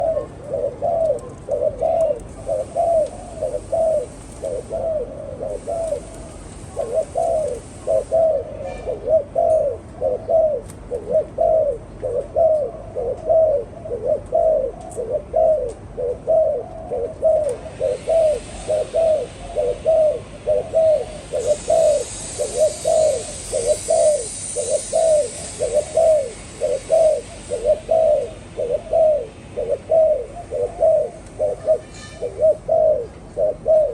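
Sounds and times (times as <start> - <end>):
dove cooing: 0.0 - 33.9.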